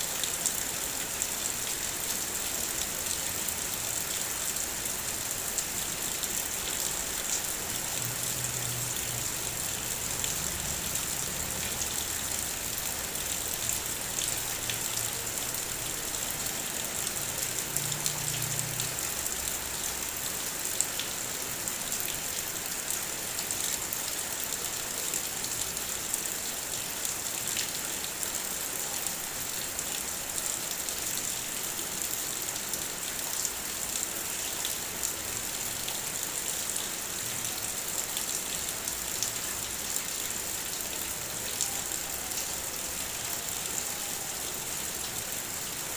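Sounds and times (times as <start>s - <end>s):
heavy rain on a car: 0.0s - 45.9s.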